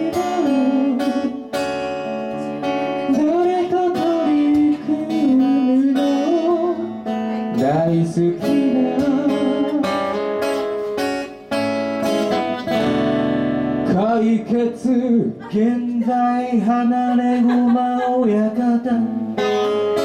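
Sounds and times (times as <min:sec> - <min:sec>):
man singing: 0:00.0 - 0:10.4, 0:13.8 - 0:20.0
acoustic guitars playing: 0:00.0 - 0:20.0.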